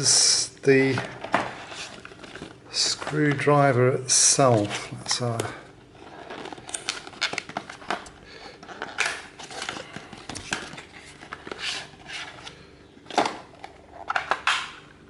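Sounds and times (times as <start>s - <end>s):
packaging rustling and crinkling: 0.8s - 14.6s.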